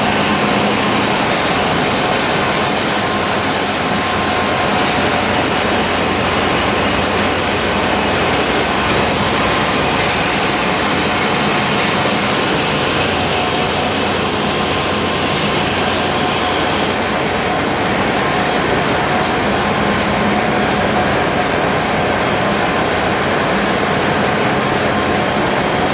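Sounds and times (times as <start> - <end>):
engine room machinery din: 0.0 - 25.9.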